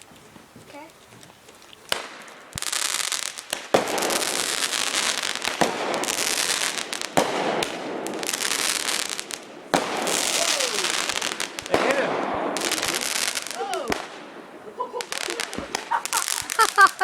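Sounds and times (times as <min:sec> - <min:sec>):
fireworks crackling hiss: 0:00.0 - 0:17.0
fireworks bangs: 0:01.9 - 0:17.0.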